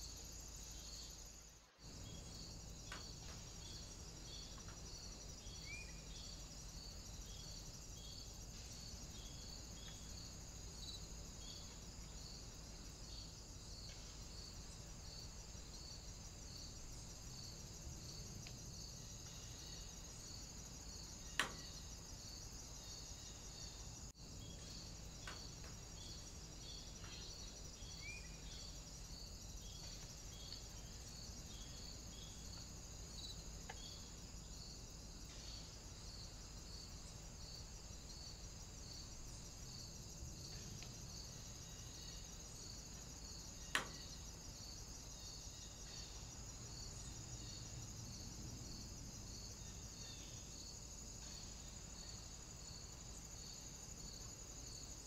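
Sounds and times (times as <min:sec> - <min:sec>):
continuous high hiss: 0:00.0 - 0:55.0
insects chirping: 0:00.0 - 0:55.0.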